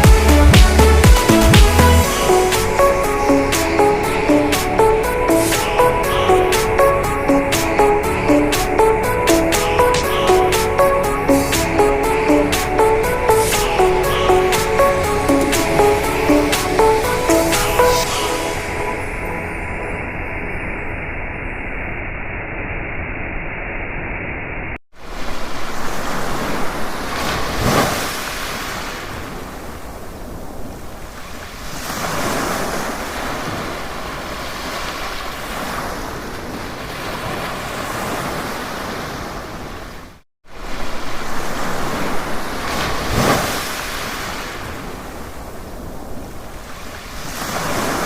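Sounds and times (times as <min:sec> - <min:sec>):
rushing water: 0:00.0 - 0:19.1, 0:25.0 - 0:48.0.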